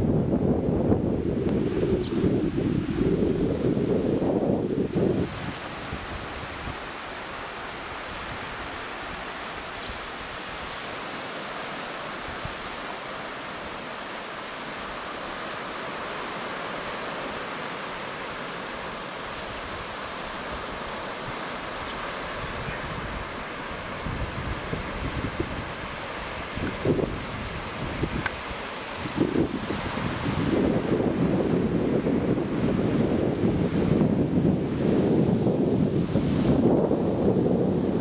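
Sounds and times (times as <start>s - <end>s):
surf washing onto beach: 0.0s - 38.0s.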